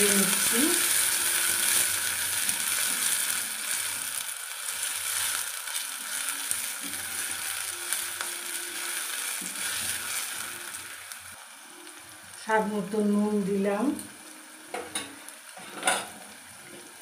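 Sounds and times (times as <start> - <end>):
peppers sizzling in hot oil: 0.0 - 17.0.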